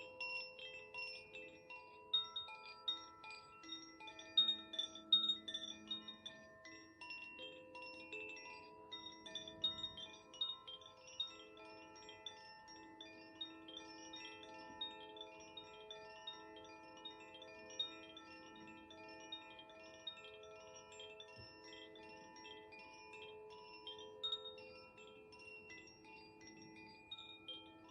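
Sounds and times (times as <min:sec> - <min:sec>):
wind chime ringing: 0:00.0 - 0:27.9.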